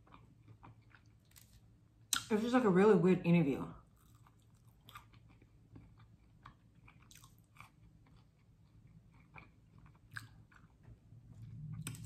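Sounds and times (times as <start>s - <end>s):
chewing crisp fry: 0.0s - 2.3s, 3.8s - 12.0s.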